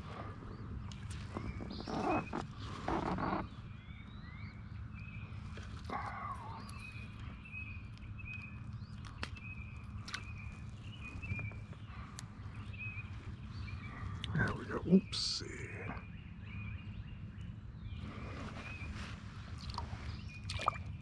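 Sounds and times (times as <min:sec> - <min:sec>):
bird chirping: 0:00.5 - 0:21.0
steady low rumble: 0:03.4 - 0:21.0.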